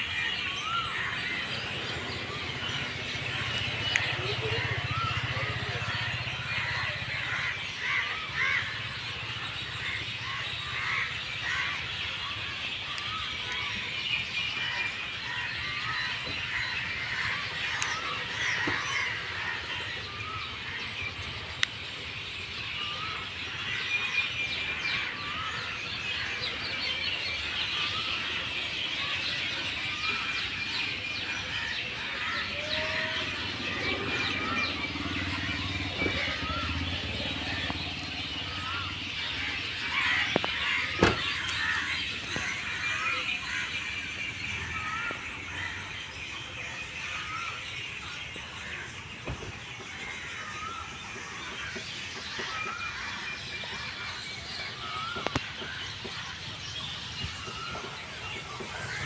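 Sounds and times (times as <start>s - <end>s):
flock of birds chirping: 0.0s - 59.0s.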